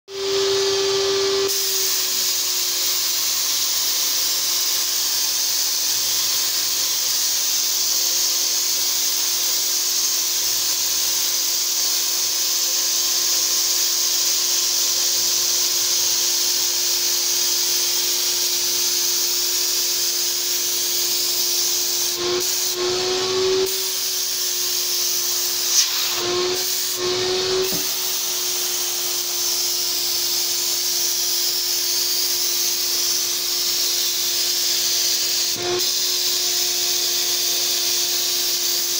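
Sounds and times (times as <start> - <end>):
paint sprayer turbine whine: 0.1 - 38.9
spray gun hissing: 1.5 - 38.9.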